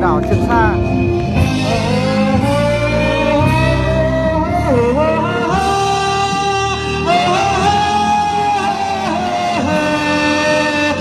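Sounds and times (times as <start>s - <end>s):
full musical accompaniment: 0.0s - 11.0s.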